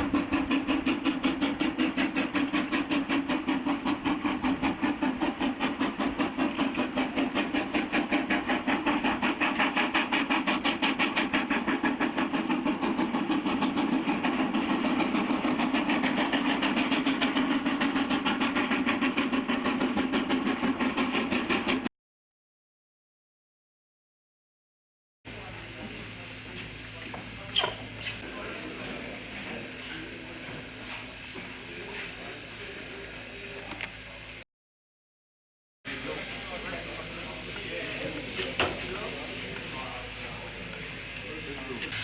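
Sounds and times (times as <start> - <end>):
steam locomotive chuffing: 0.0 - 21.9, 25.3 - 34.4, 35.9 - 42.0.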